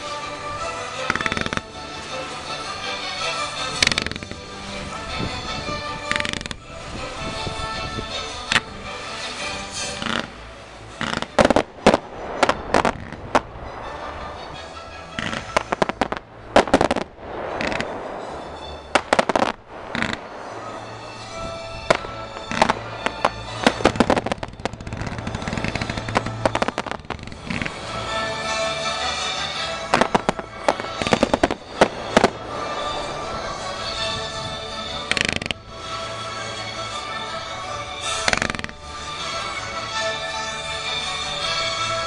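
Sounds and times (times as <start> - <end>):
fireworks bangs and crackles: 0.0 - 40.0
music playing: 0.0 - 42.0.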